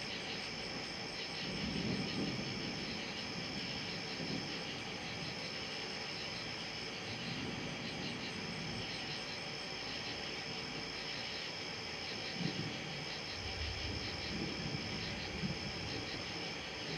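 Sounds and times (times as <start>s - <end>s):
crickets chirping and trilling: 0.0s - 16.9s.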